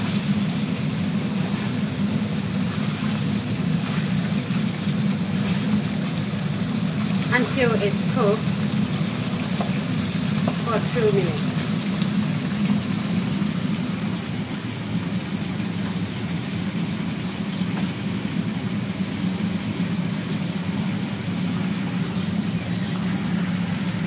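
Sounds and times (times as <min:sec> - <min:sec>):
fish sizzling in sauce: 0:00.0 - 0:24.0
low kitchen hum: 0:00.0 - 0:24.0.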